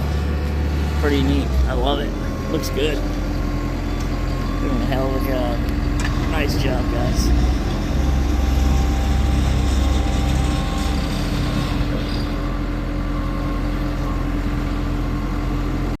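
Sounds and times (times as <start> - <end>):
diesel paving machinery running: 0.0 - 16.0.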